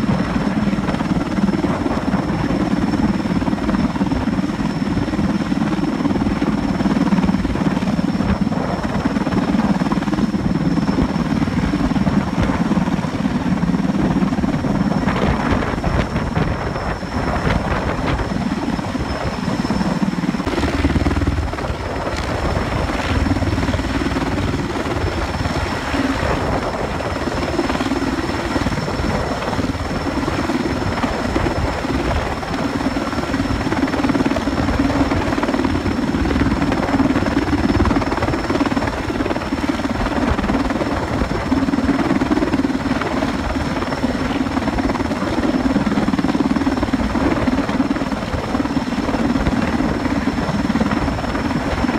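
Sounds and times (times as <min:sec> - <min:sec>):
helicopter rotors and engines: 0:00.0 - 0:51.9.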